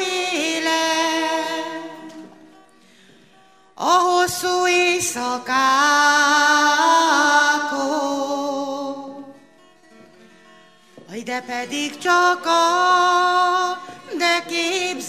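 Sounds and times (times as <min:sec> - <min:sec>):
woman singing into a microphone: 0:00.0 - 0:02.6, 0:03.8 - 0:09.4, 0:11.0 - 0:15.0.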